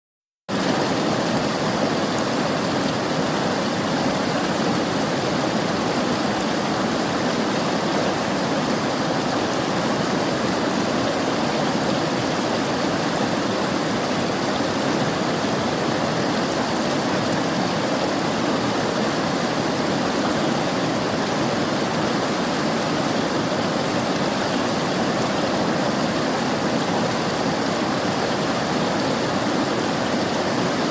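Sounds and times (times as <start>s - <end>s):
river water rushing: 0.5s - 30.9s.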